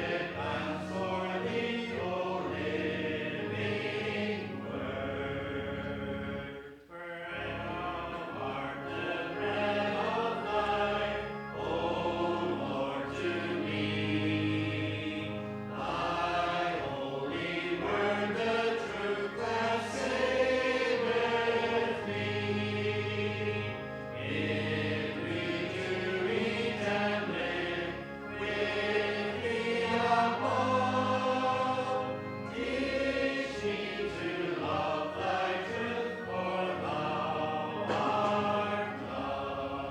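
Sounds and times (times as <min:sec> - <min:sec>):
congregation singing a hymn: 0:00.0 - 0:39.9
instrumental accompaniment: 0:00.0 - 0:39.9.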